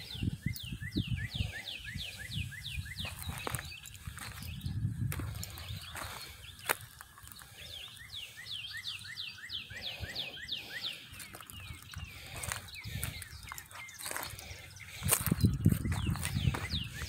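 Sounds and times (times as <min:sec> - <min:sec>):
songbird whistling: 0:00.0 - 0:04.7, 0:07.7 - 0:17.0.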